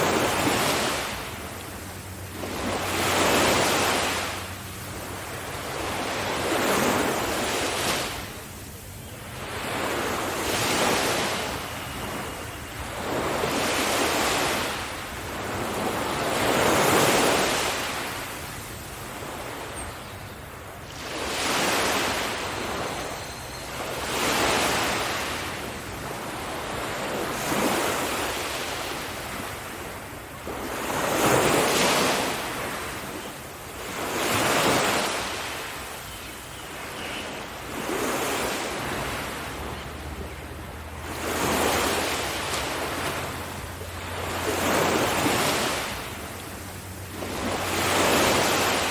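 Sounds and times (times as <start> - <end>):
ocean waves breaking on beach: 0.0 - 48.9.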